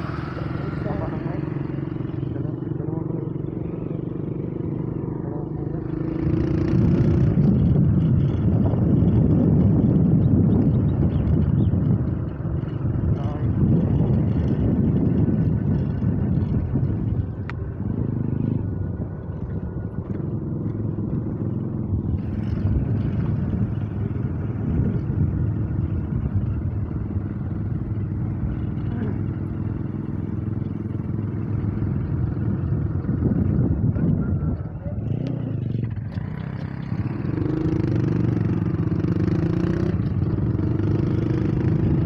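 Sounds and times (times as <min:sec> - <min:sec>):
small motorcycle engine running: 0:00.0 - 0:42.0.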